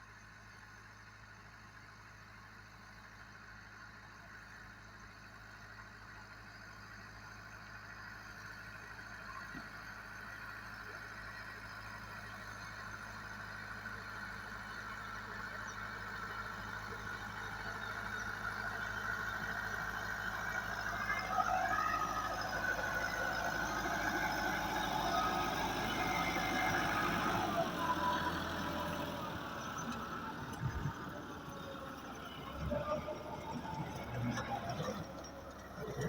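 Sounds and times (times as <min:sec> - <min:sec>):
tractor diesel engine running: 0:00.2 - 0:36.0.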